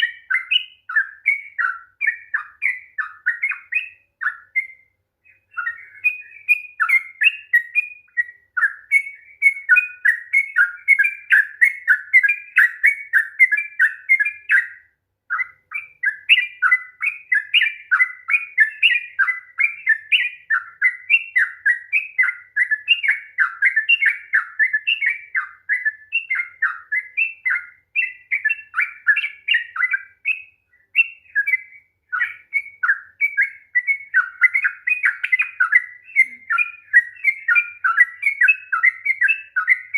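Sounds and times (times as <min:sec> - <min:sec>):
bulbul singing quick chirps: 0:00.0 - 0:39.9.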